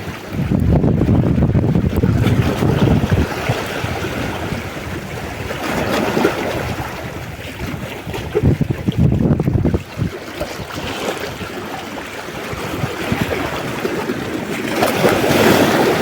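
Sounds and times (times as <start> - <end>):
sea waves: 0.0 - 16.0
wind buffeting microphone: 0.0 - 16.0.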